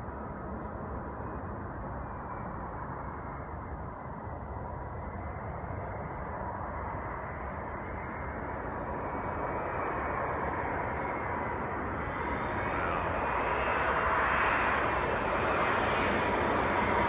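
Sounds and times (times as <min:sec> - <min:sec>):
jet engines on approach: 0:00.0 - 0:17.0.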